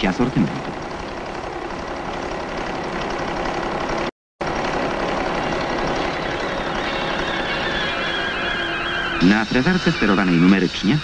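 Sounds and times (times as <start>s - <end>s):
milling machine humming: 0.0s - 11.0s.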